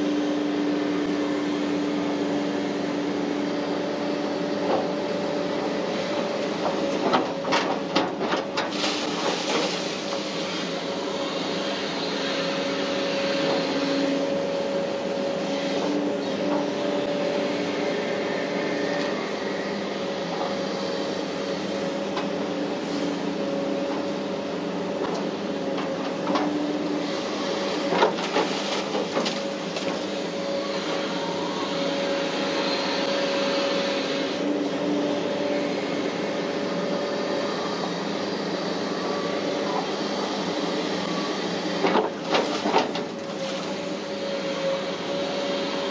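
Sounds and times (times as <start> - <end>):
excavator engine and hydraulics: 0.0 - 45.9.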